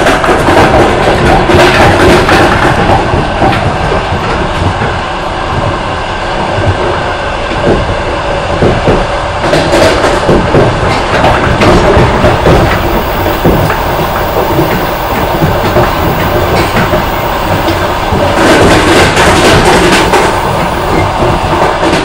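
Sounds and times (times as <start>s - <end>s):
clickety-clack knocks: 0.0s - 5.8s, 6.4s - 22.0s
train wheels rumbling on rails: 0.0s - 22.0s.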